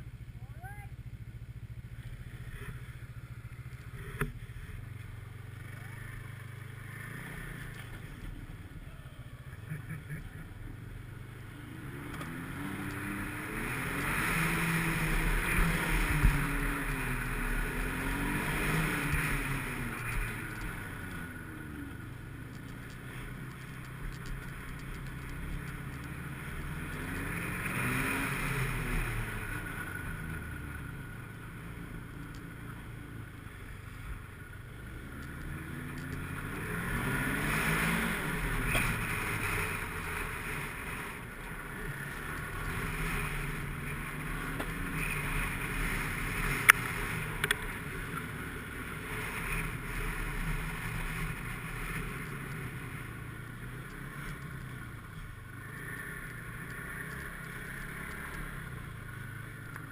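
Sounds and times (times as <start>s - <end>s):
snowmobile engine running: 1.4s - 59.9s.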